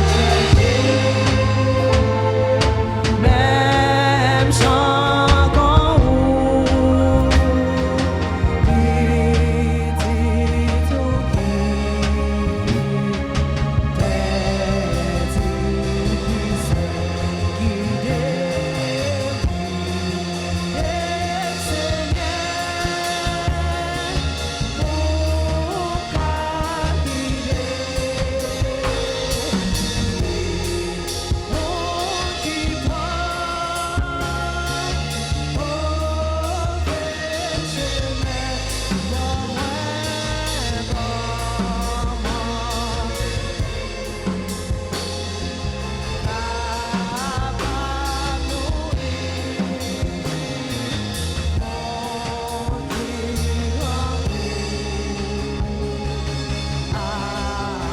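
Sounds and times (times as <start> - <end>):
band playing: 0.0 - 57.9
bass: 0.0 - 57.9
drum kit beat: 0.0 - 57.9
person singing: 0.0 - 57.9.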